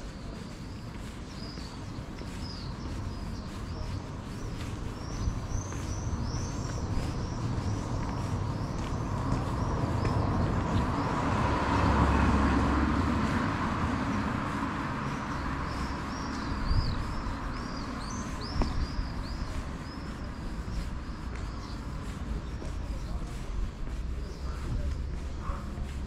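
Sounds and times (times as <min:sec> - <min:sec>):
birds chirping: 0:00.0 - 0:26.0
road vehicle passing: 0:00.1 - 0:26.0.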